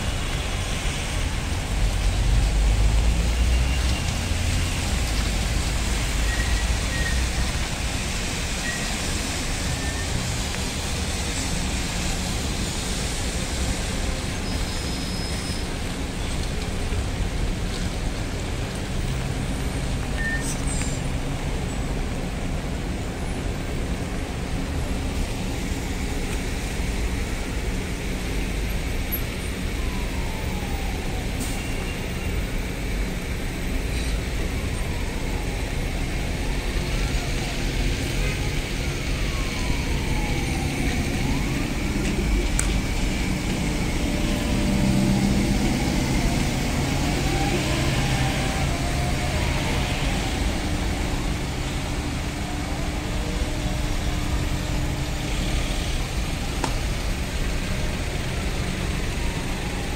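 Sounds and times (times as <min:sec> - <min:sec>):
trolleybus electric whine: 0:00.0 - 0:59.9
trolleybus low hum: 0:00.0 - 0:59.9
tyres hissing on wet road: 0:00.0 - 0:59.9.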